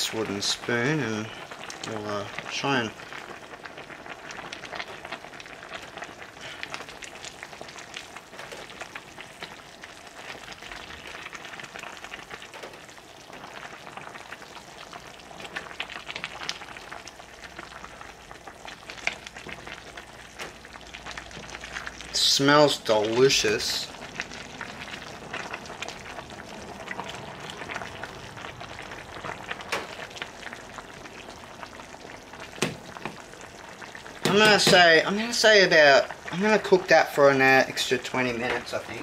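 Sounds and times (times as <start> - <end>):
steady hiss from pot: 0.0 - 39.0.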